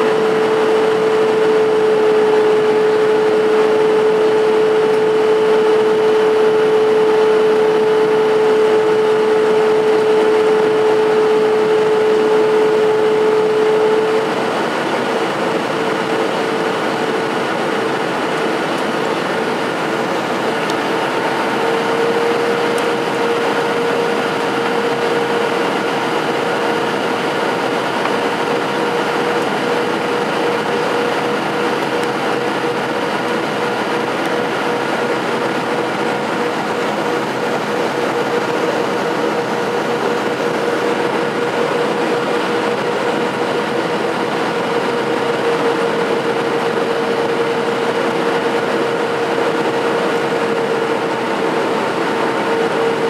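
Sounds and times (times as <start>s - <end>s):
jet engine noise: 0.0s - 53.0s
steady hum: 0.0s - 53.0s
rush of air in aircraft cabin: 0.1s - 53.0s.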